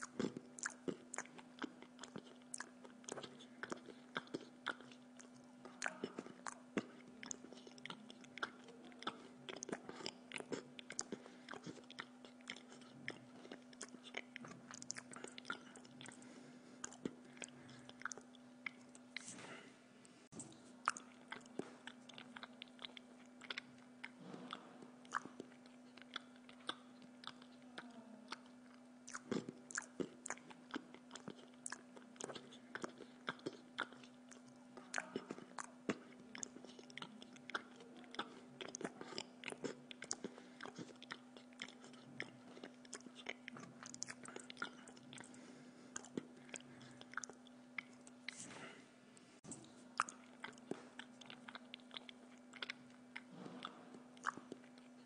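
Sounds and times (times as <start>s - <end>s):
wet chewing mouth clicks: 0.0s - 19.6s, 20.3s - 48.8s, 49.4s - 55.0s.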